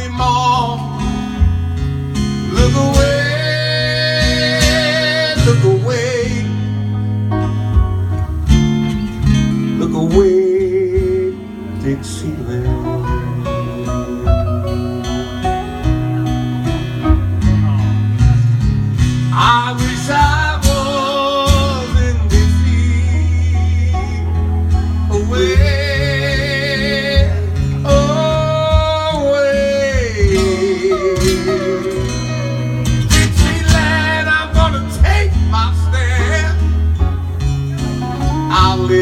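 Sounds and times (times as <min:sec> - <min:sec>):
man singing with vibrato: 0:00.0 - 0:07.2, 0:09.5 - 0:18.5, 0:19.1 - 0:39.0
acoustic guitars strumming: 0:00.0 - 0:39.0.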